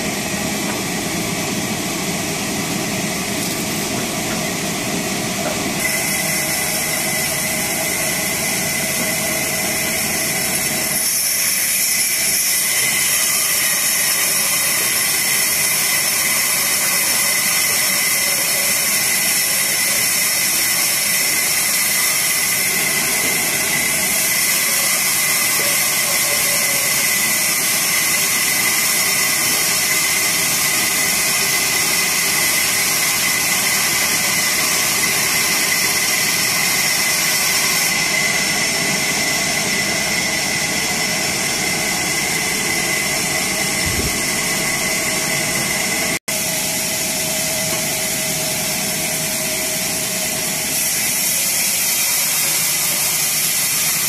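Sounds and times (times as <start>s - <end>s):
band saw cutting wood: 0.0s - 54.0s.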